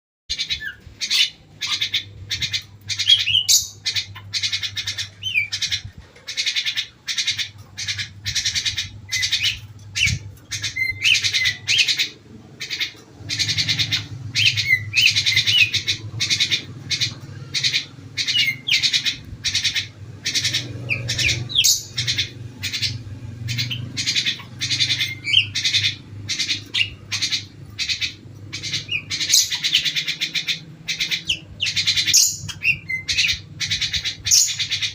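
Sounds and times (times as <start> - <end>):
birds chirping harshly: 0.3 - 34.9.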